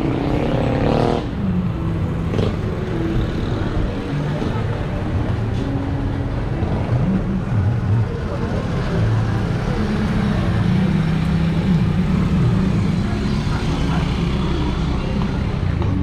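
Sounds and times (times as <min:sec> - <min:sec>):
traffic hum: 0:00.0 - 0:16.0
vehicle engines revving: 0:00.0 - 0:16.0.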